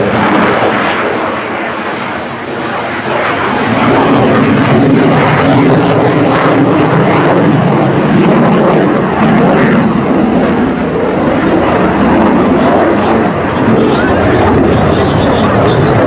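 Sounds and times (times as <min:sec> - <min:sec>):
jet aircraft flying overhead: 0:00.0 - 0:16.0.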